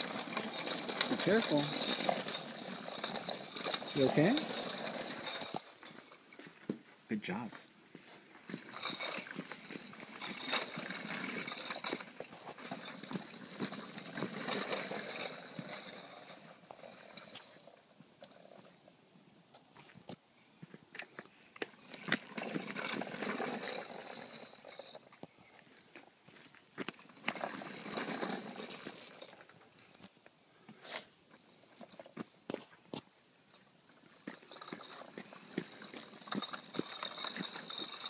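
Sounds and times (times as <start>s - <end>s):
bicycle rattling over asphalt: 0.0s - 7.0s, 7.7s - 19.0s, 21.1s - 30.2s, 30.8s - 38.0s.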